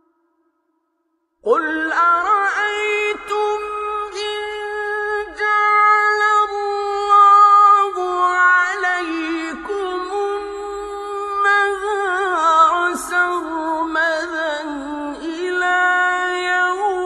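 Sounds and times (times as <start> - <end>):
man reciting melodically: 1.5 - 17.0.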